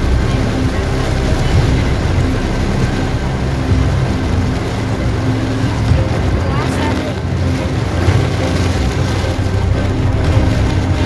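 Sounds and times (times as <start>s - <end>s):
car engine hum: 0.0s - 11.0s
heavy rain drumming on car roof: 0.0s - 11.0s
tyres on flooded road: 0.0s - 11.0s.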